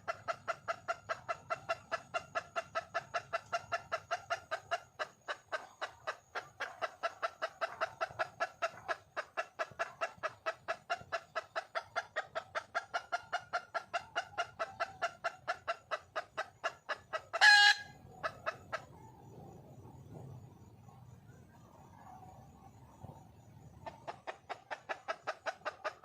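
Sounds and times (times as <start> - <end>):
hen clucking: 0.0 - 20.9, 21.5 - 26.0.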